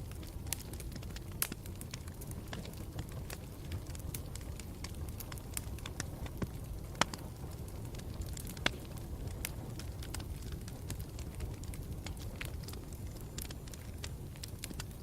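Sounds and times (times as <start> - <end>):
campfire crackling: 0.0 - 15.0
loud fire pops: 0.0 - 15.0.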